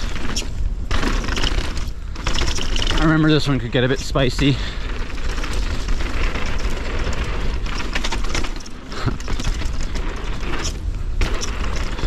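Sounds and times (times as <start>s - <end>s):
mountain bike clattering: 0.0s - 12.0s.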